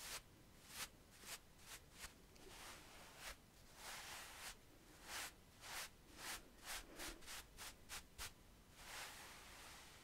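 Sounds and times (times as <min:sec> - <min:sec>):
paintbrush bristles brushing skin: 0:00.0 - 0:10.0.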